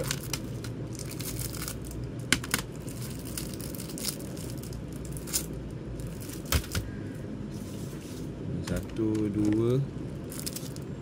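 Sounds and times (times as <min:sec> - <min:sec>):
plastic packaging crinkling: 0:00.0 - 0:06.9, 0:08.8 - 0:11.0.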